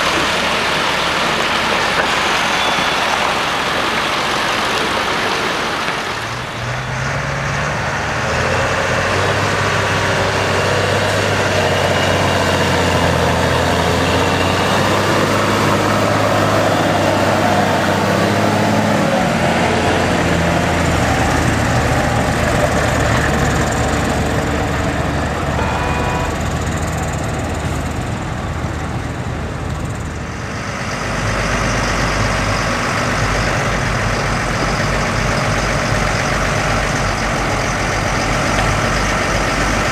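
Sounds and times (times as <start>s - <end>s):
heavy diesel engines under load: 0.0s - 39.9s.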